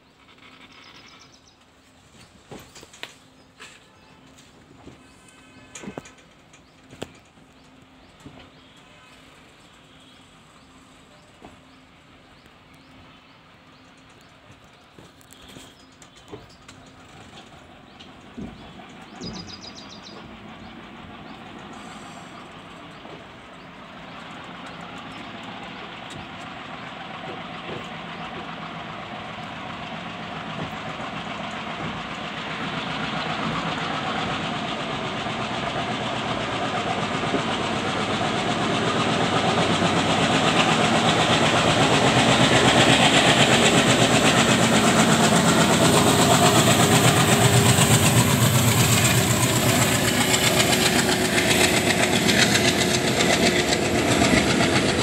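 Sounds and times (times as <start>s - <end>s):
diesel locomotives chugging: 0.0s - 55.0s.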